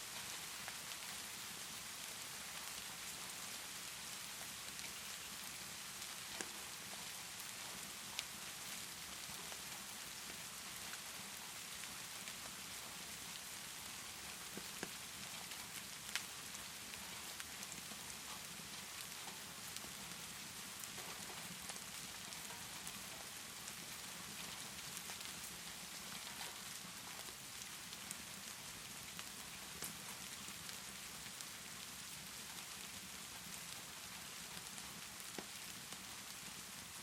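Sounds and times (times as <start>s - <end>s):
steady rainfall: 0.0s - 37.0s
wood fire crackling: 0.2s - 37.0s.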